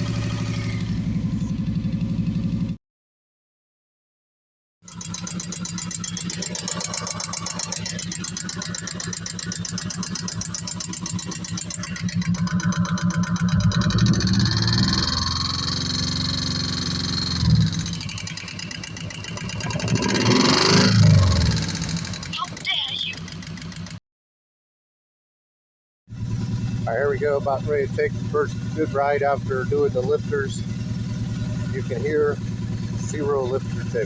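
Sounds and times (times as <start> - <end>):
motorcycle engine running: 0.0 - 2.8, 4.8 - 24.0, 26.1 - 34.0.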